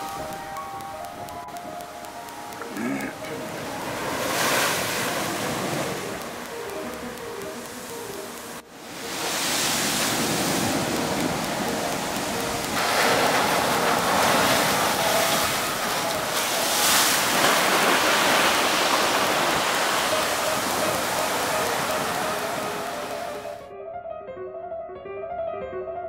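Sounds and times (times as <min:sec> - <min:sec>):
sea waves breaking on beach: 0:02.6 - 0:23.6.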